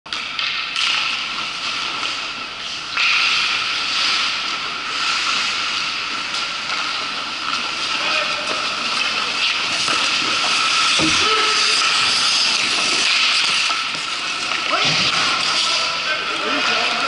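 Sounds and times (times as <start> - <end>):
hissing ice rink background noise: 0.1 - 17.0
skates scraping on ice: 0.3 - 17.0.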